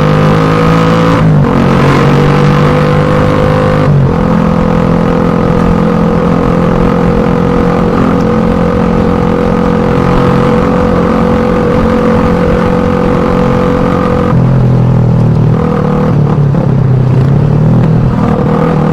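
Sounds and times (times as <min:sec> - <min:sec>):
motorcycle engine exhaust running: 0:00.0 - 0:18.9.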